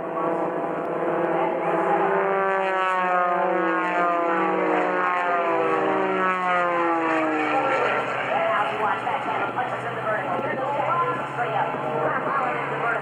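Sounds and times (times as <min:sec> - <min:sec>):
propeller airplane flying past: 0:00.0 - 0:13.0.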